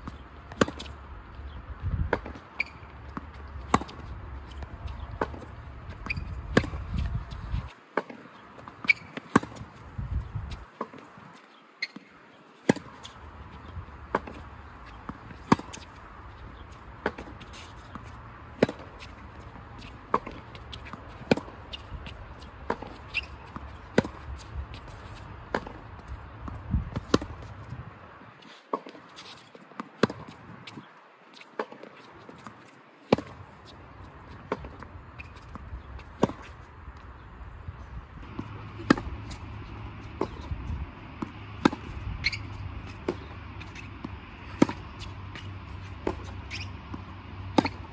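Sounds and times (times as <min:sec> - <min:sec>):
tennis ball bouncing: 0:00.0 - 0:09.9, 0:11.8 - 0:27.6, 0:28.7 - 0:30.8, 0:31.4 - 0:37.2, 0:38.2 - 0:47.9
racket striking tennis ball: 0:00.5 - 0:01.0, 0:02.0 - 0:09.7, 0:11.8 - 0:16.0, 0:16.8 - 0:27.5, 0:28.7 - 0:30.3, 0:31.6 - 0:33.6, 0:34.4 - 0:36.6, 0:38.2 - 0:47.9.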